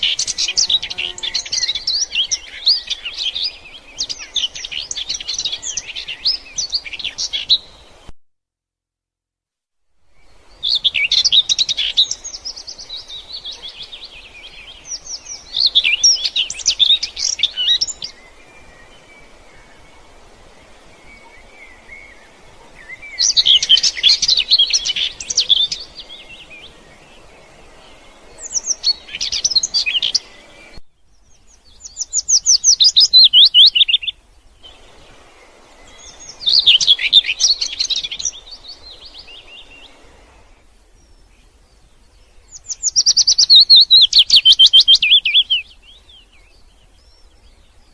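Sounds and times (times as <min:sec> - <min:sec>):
songbird singing: 0:00.0 - 0:08.1, 0:10.0 - 0:47.9
faint outdoor background: 0:00.0 - 0:47.9.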